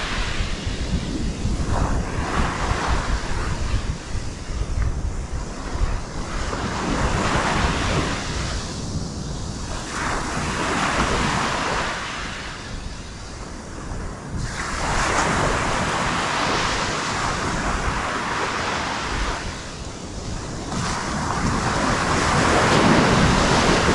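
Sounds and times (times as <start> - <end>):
ocean surf breaking: 0.0 - 23.9
wind rumbling on microphone: 0.0 - 23.9.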